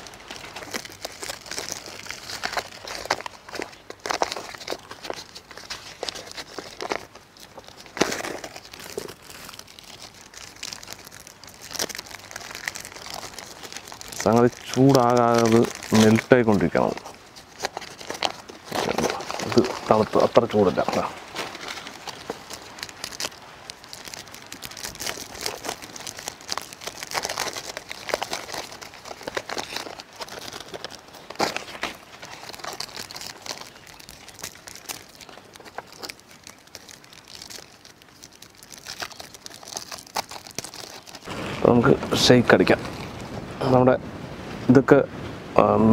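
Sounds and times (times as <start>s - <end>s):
wrappers crinkling: 0.0s - 43.4s.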